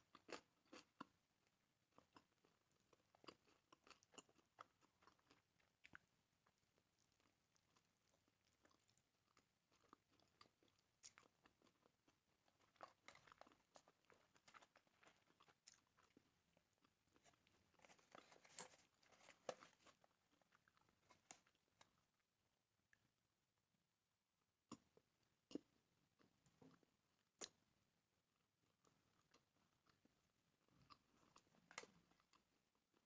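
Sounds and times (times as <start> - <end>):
faint chewing and biting: 0.0 - 22.3, 24.7 - 27.7, 28.6 - 33.0.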